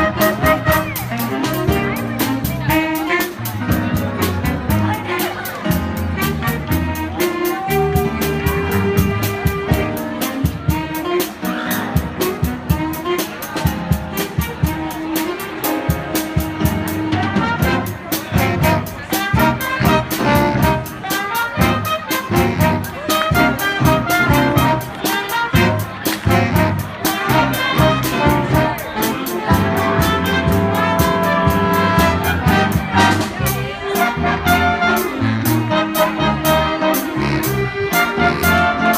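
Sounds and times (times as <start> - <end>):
jazz horns: 0.0 - 38.9
steady drum beat: 0.0 - 38.9.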